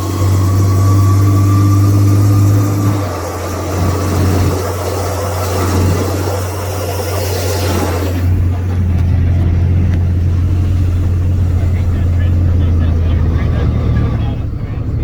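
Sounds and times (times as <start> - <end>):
truck engine rumble from cab: 0.0 - 15.0.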